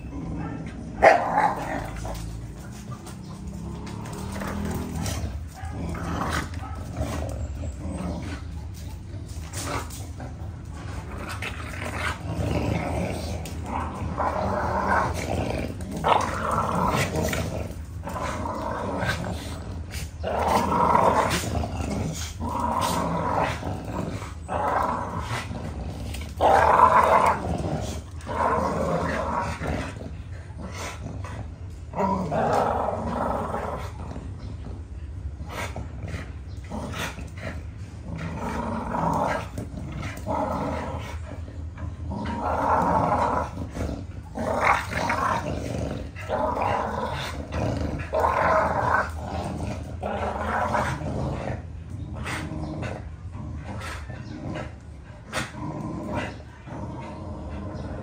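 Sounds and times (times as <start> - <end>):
dogs growling in play: 0.0 - 58.0.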